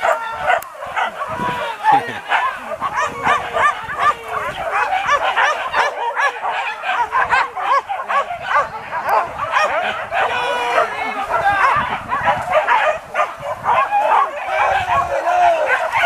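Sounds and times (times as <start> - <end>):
dogs yelping and baying: 0.0 - 16.0.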